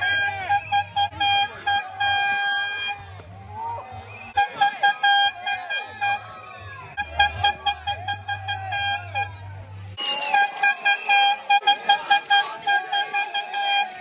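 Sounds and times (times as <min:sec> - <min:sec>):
air horn blasts: 0:00.0 - 0:03.4, 0:04.0 - 0:14.0
crowd shouting and cheering: 0:00.0 - 0:14.0.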